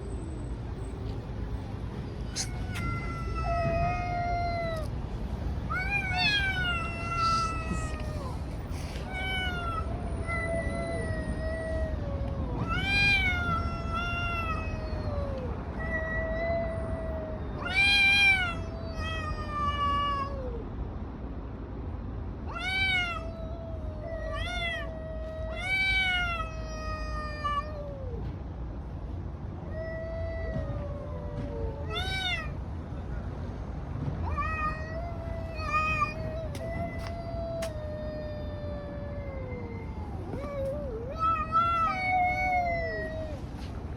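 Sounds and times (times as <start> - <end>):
cats yowling: 2.2 - 20.7, 22.5 - 28.4, 29.6 - 32.8, 34.2 - 43.7.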